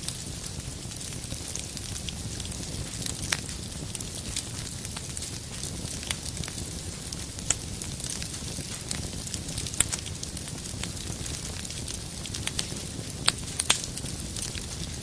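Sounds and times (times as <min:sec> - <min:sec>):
fire rumbling: 0:00.0 - 0:15.0
firewood crackling and popping: 0:00.0 - 0:15.0.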